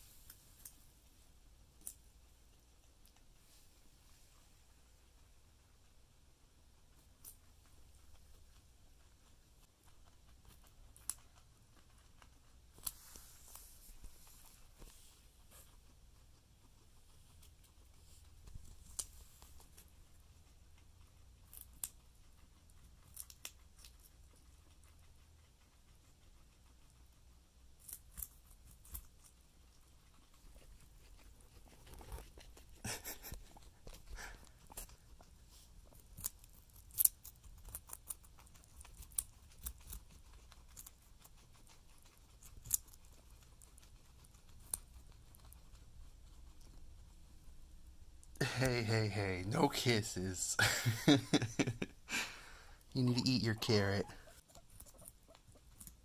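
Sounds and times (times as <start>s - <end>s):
faint low hum: 0.0s - 56.0s
guinea pigs chewing carrot: 0.0s - 56.0s.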